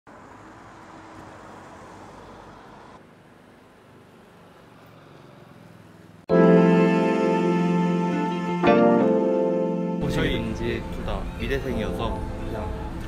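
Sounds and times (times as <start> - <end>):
city traffic hum: 0.1 - 13.0.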